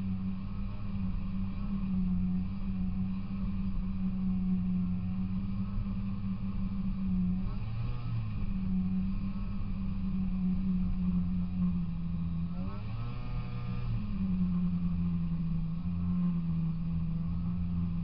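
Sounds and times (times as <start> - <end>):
snowmobile two-stroke engine running: 0.0 - 18.0.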